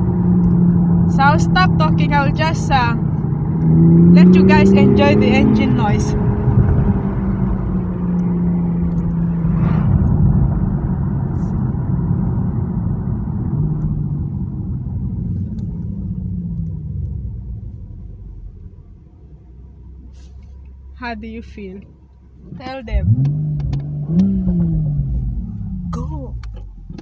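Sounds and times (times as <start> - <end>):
car engine accelerating: 0.0 - 27.0
road noise: 0.0 - 27.0.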